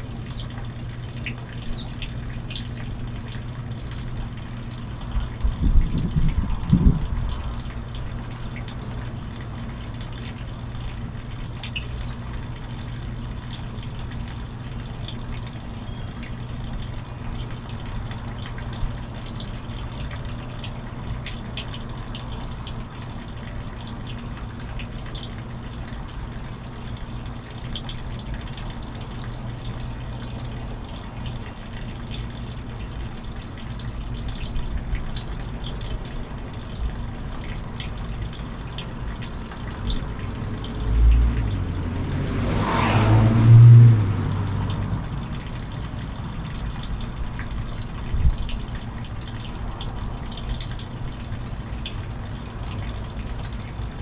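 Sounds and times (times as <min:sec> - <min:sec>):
low steady hum: 0:00.0 - 0:54.0
running water: 0:00.0 - 0:54.0.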